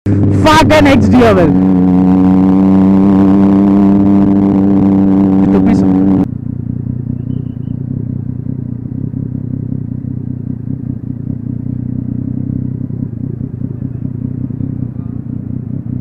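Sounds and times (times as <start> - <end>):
motorcycle engine rumbling: 0.1 - 16.0.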